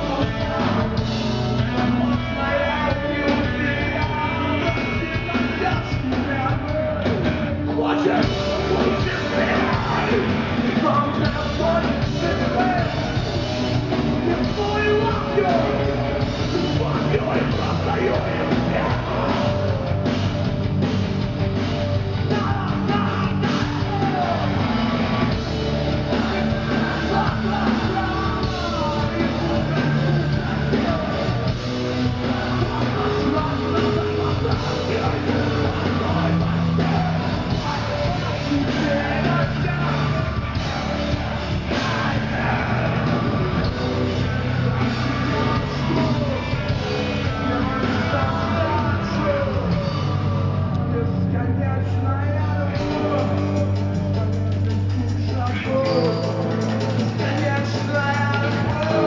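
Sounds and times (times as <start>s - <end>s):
person yelling singing: 0.0s - 20.5s, 22.2s - 25.4s, 26.0s - 59.0s
heavy rock band playing: 0.0s - 59.0s.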